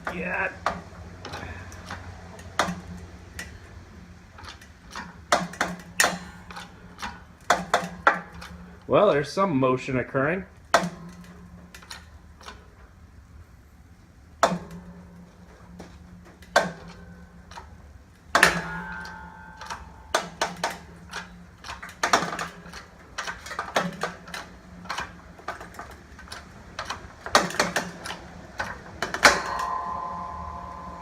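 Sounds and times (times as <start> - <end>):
sharp cracks and pops under press: 0.0 - 8.8, 10.6 - 13.0, 14.4 - 29.8
steady low hum: 0.0 - 31.0.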